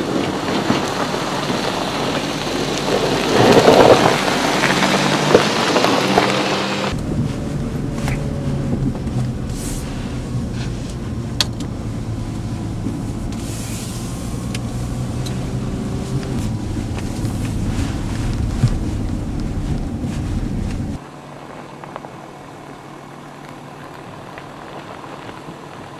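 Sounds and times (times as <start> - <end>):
car engine at low revs: 0.0 - 25.9.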